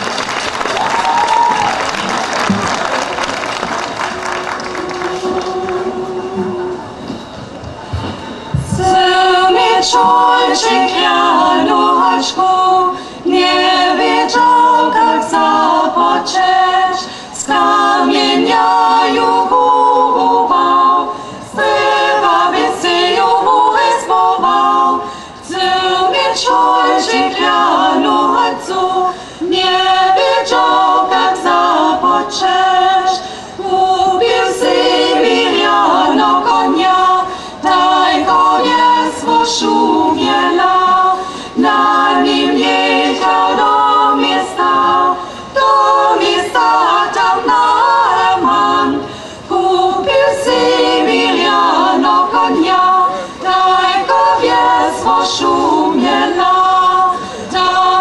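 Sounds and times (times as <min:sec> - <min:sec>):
group singing without instruments: 0:03.7 - 0:07.3, 0:08.1 - 0:58.0.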